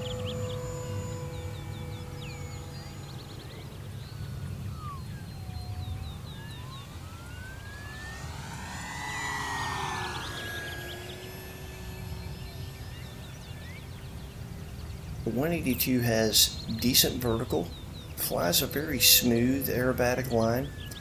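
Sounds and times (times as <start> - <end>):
model plane motor whine: 0.0 - 21.0
propeller rush: 0.0 - 21.0.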